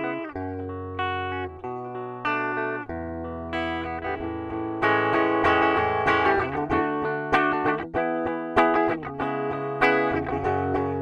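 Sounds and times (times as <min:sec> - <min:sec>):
clean electric guitar playing: 0:00.0 - 0:11.0.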